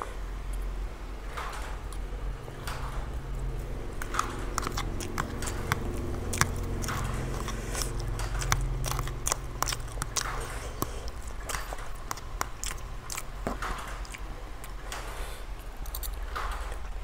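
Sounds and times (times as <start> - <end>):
chewing noises: 1.4 - 17.0.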